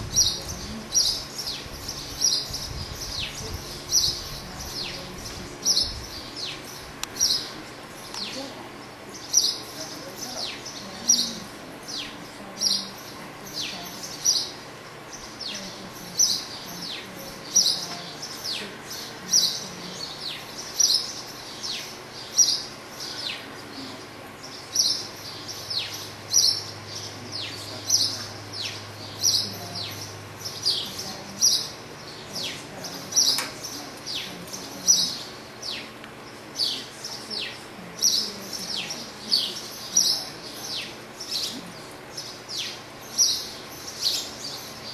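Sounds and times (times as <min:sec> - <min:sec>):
small bird chirping: 0:00.0 - 0:44.9.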